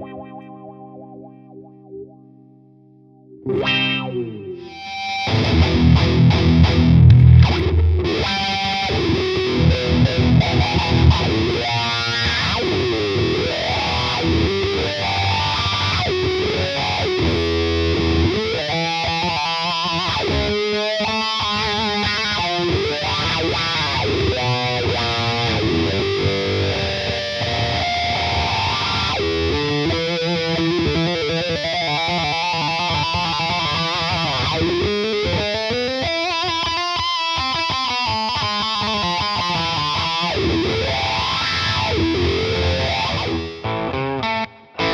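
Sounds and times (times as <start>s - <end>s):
electric guitar with wah: 0.0s - 2.3s, 3.2s - 44.9s.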